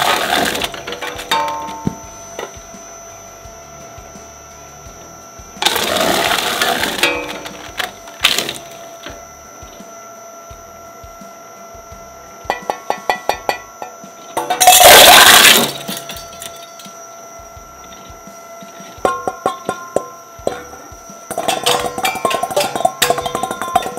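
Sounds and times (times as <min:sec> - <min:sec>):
shredder cutters grinding: 0:00.0 - 0:13.0, 0:13.7 - 0:23.9
shredder machine whine: 0:00.0 - 0:23.9.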